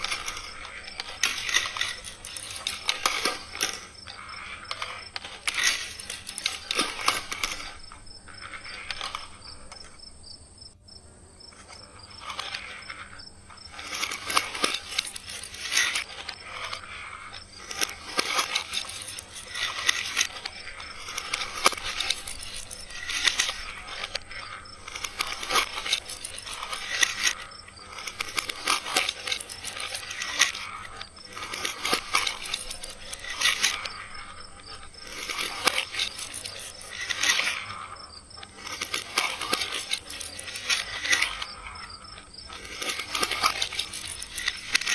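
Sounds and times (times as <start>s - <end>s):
marbles clattering on plastic tracks: 0.0s - 10.8s, 11.4s - 44.9s.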